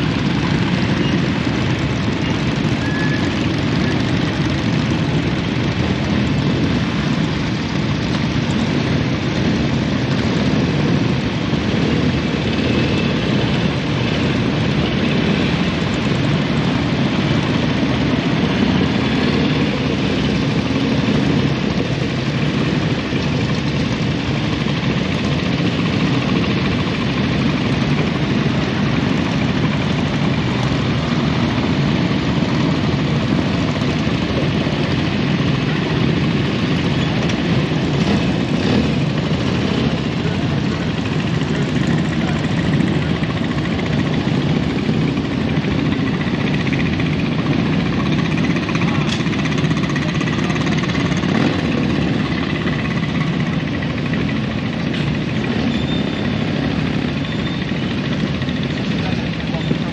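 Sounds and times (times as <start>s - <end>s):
motorcycle engines idling: 0.0s - 59.9s.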